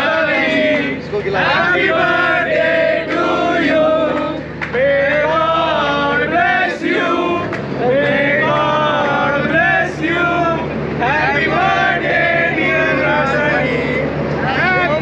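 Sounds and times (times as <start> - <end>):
group singing in chorus: 0.0 - 14.3.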